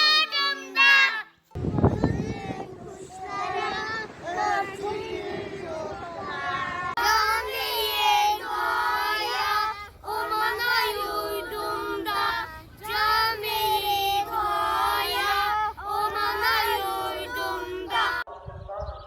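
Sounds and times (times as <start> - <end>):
children singing: 0.0 - 18.3.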